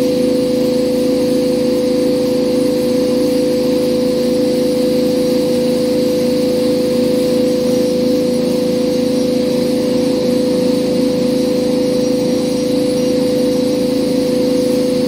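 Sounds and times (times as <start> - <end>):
water pump motor humming: 0.0 - 15.0.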